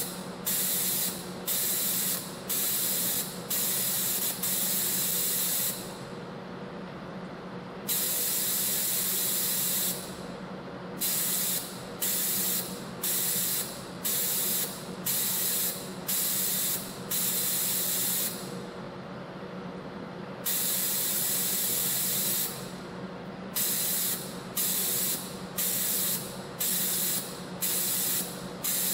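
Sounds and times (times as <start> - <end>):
spring coiling machine hiss: 0.0 - 6.0, 7.9 - 10.2, 11.0 - 18.6, 20.5 - 22.8, 23.6 - 28.9.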